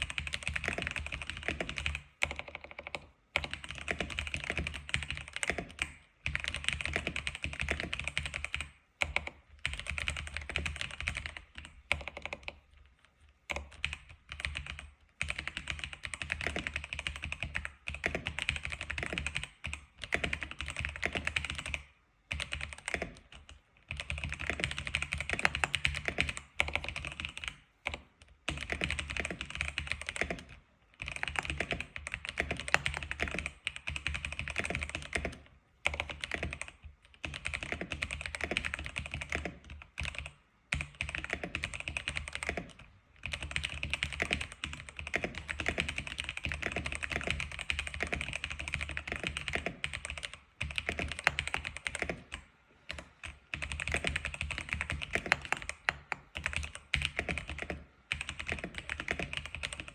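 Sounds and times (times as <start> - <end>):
fast mechanical keyboard typing: 0.0 - 12.6, 13.5 - 59.9.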